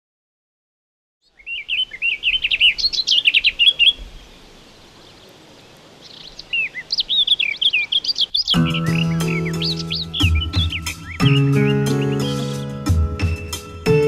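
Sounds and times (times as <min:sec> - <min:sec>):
songbird chirping: 0:01.2 - 0:14.0.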